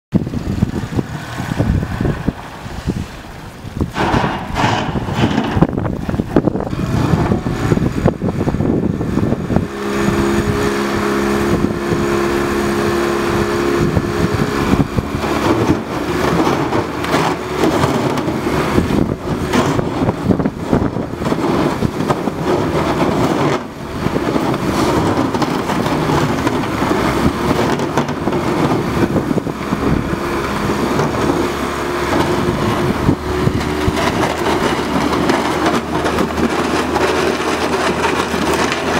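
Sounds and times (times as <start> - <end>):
boat crackling through ice: 0.1 - 38.9
outboard motor running hard: 5.6 - 38.9.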